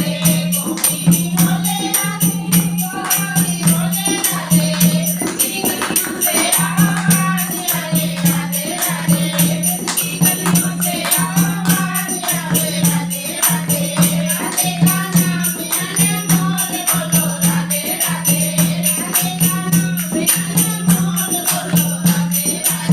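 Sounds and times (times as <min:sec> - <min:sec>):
hand drum beat: 0:00.0 - 0:22.9
jingling percussion: 0:00.0 - 0:22.9
voices singing devotional song: 0:00.0 - 0:22.9.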